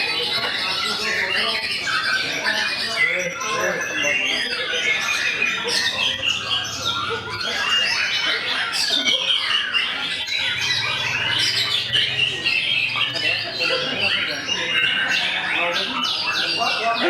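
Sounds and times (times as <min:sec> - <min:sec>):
birds singing in chorus: 0:00.0 - 0:17.0.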